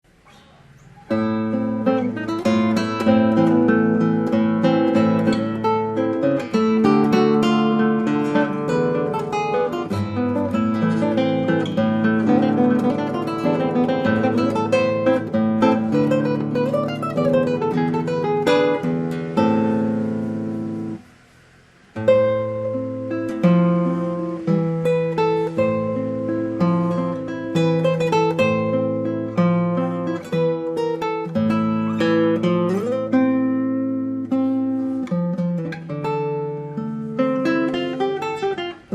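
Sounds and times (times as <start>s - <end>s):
classical guitar playing: 0.1s - 38.9s.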